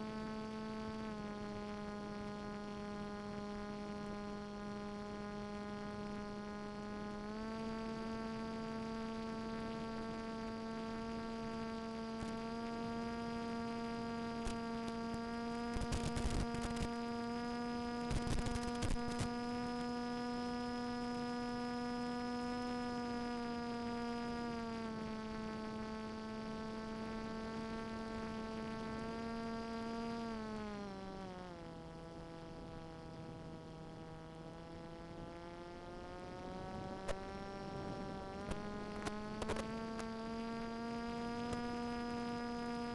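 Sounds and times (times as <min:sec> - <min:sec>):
crackling static: 0:00.0 - 0:42.9
propeller motor droning: 0:00.0 - 0:42.9.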